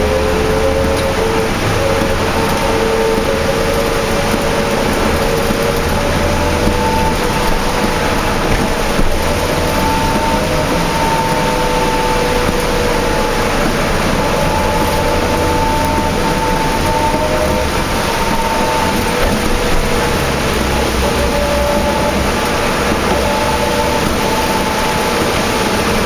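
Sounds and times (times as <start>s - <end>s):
bus engine rumble and whine: 0.0s - 26.0s
heavy rain: 0.0s - 26.0s
road noise: 0.0s - 26.0s.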